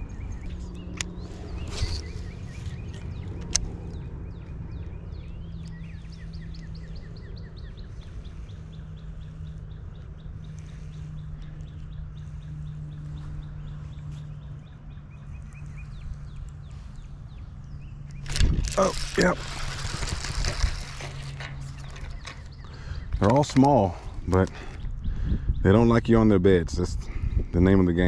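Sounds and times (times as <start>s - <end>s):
steady low hum: 0.0s - 27.8s
birds chirping: 0.0s - 28.0s.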